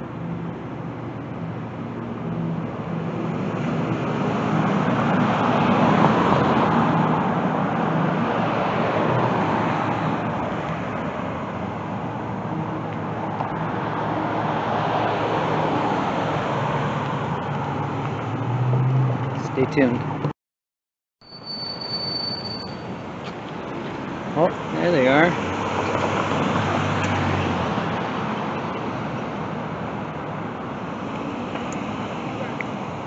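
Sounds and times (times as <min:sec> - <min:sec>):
cars passing on street: 0:00.0 - 0:20.3, 0:21.2 - 0:33.0.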